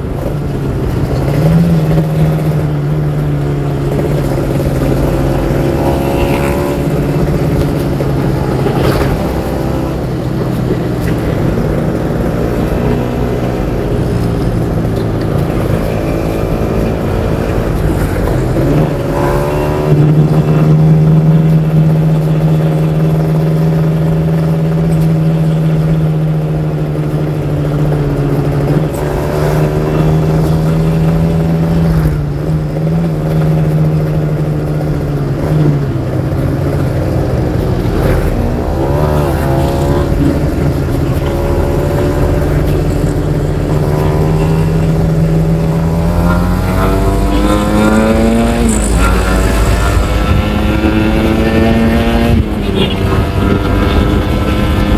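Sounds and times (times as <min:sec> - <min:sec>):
two-stroke motorcycle engine running: 0:00.0 - 0:54.9.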